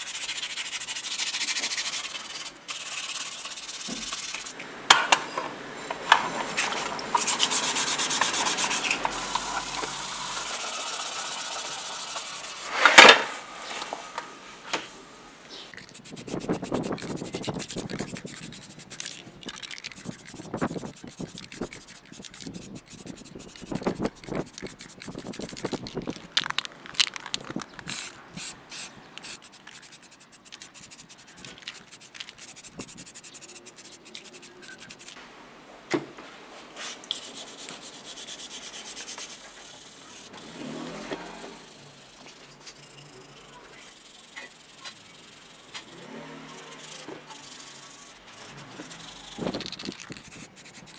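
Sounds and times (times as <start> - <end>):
spray paint can hissing: 0.0 - 4.6, 6.9 - 12.8, 15.7 - 35.2, 37.0 - 40.6, 41.6 - 50.9
rubbing and scraping of housings: 0.0 - 35.2, 36.8 - 50.9.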